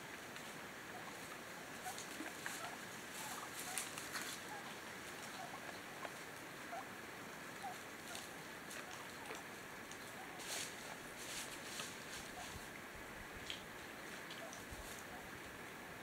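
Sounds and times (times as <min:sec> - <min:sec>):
background hiss: 0:00.0 - 0:16.0
turkeys calling softly: 0:00.0 - 0:16.0.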